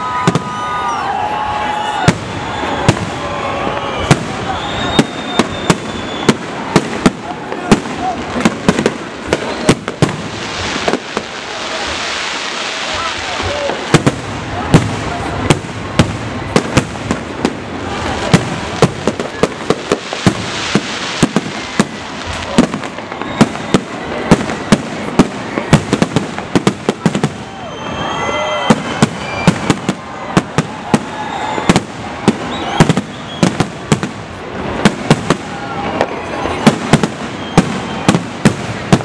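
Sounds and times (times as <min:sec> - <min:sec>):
fireworks bangs: 0:00.0 - 0:39.0
fireworks crackling: 0:00.0 - 0:39.0.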